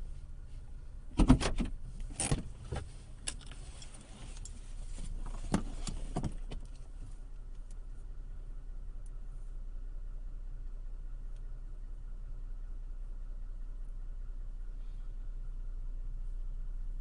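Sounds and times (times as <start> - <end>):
pickup truck engine rumble: 0.0 - 17.0.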